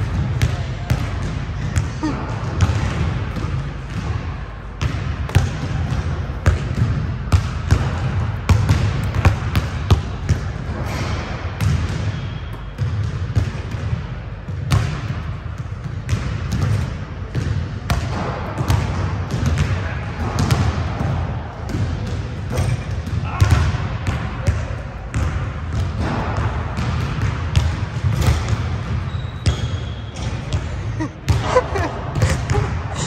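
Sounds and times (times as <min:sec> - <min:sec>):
basketball bouncing on gym court: 0:00.0 - 0:33.0.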